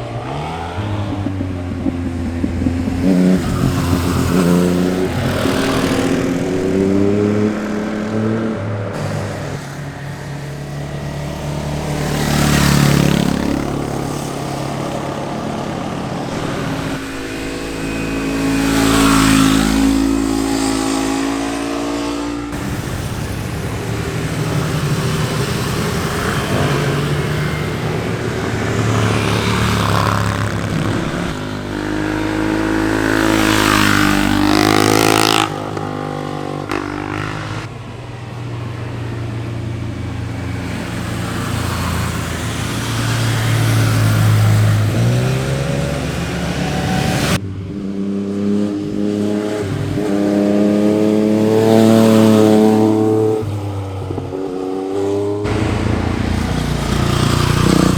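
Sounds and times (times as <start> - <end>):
motorcycles revving past: 0.0 - 57.9.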